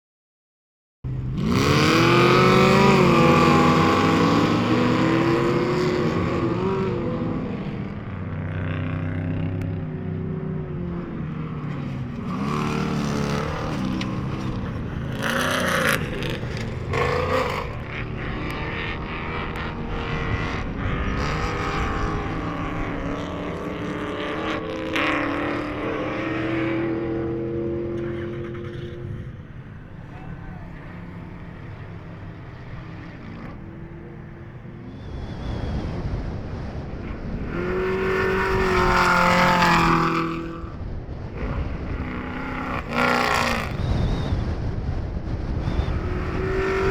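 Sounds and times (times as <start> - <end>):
race car engine revving: 1.1 - 46.9.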